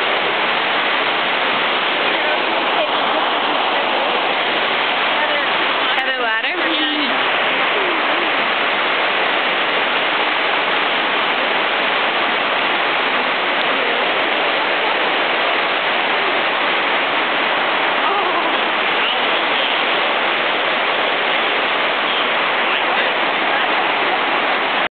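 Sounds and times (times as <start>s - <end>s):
heavy rain on a roof: 0.0s - 24.9s.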